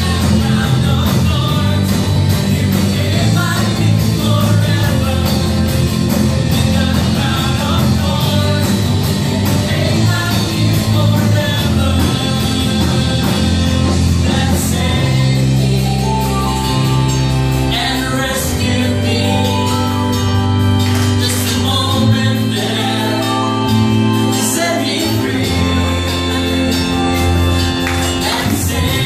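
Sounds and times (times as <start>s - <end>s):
person singing: 0.0s - 20.5s, 21.1s - 29.0s
band playing gospel song: 0.0s - 29.0s.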